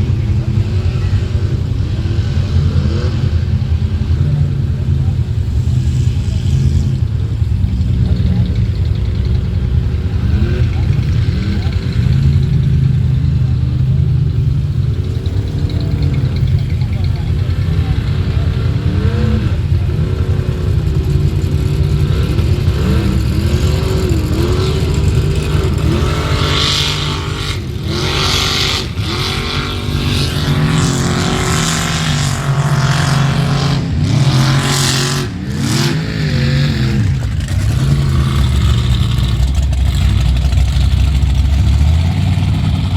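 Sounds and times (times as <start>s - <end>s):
deep steady rumble: 0.0s - 42.9s
engine revving hard: 0.0s - 42.9s.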